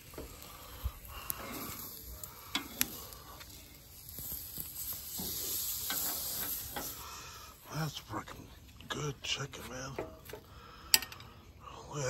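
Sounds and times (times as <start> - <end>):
chicken sizzling on a grill: 0.0 - 12.0.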